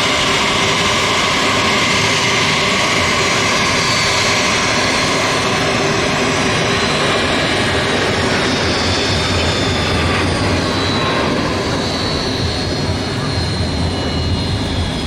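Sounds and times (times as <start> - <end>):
jet engines with high whine: 0.0 - 15.0.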